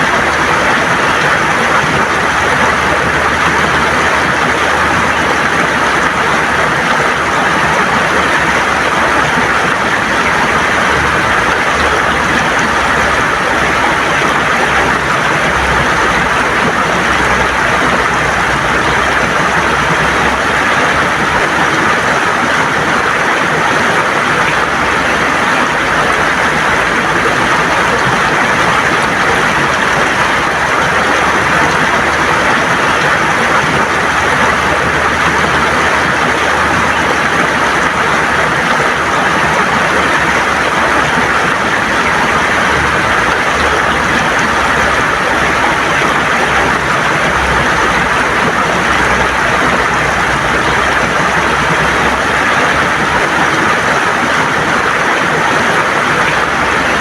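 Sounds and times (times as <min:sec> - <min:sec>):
river water rushing over stones: 0:00.0 - 0:57.0.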